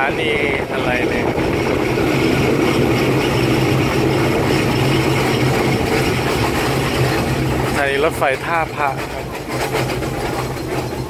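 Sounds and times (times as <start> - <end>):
rumble of train wheels: 0.0 - 11.0
train engine hum: 0.0 - 11.0.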